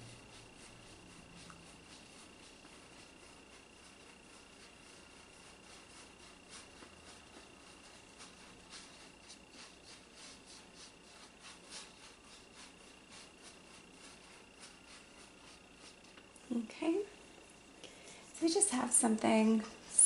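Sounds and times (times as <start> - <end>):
brush strokes on canvas: 0.0 - 17.6.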